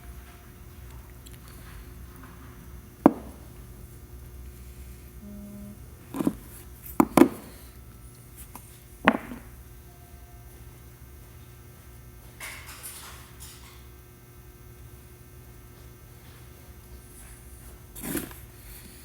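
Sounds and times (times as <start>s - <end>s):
steady low hum: 0.0s - 12.5s, 13.2s - 19.0s.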